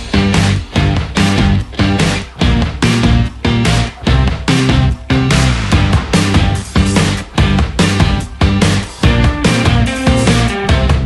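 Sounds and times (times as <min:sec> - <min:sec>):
music with a strong regular beat: 0:00.0 - 0:11.0.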